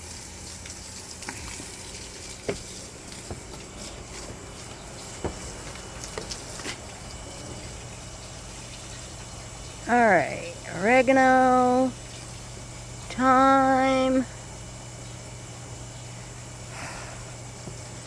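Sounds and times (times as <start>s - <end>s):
hose water spraying on plants: 0.0s - 18.0s.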